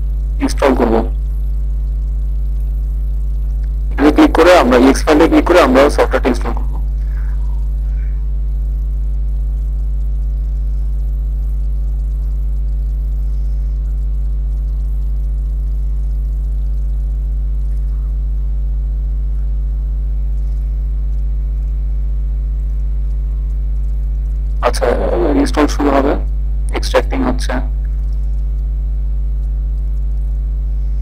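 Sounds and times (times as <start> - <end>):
mains hum: 0.0 - 31.0.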